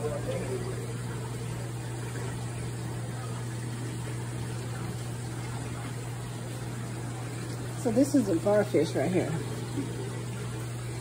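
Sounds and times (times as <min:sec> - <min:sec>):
aquarium pump humming: 0:00.0 - 0:11.0.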